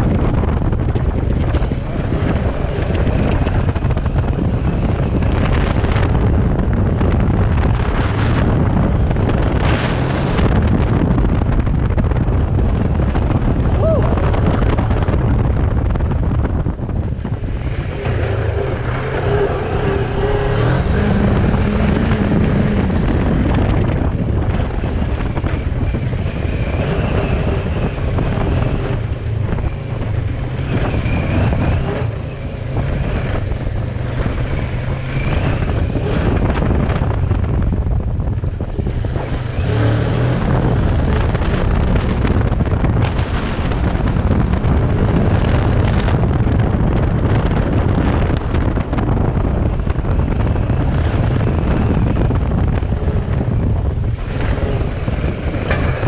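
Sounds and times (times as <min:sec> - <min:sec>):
motorcycle engine revving: 0:00.0 - 0:56.0
wind buffeting microphone: 0:00.0 - 0:56.0.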